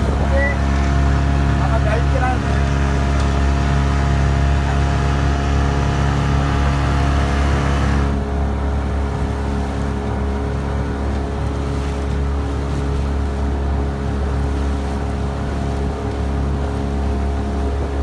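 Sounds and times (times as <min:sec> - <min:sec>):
motorboat engine droning: 0:00.0 - 0:18.0
rushing water: 0:00.0 - 0:18.0
wind: 0:00.0 - 0:18.0.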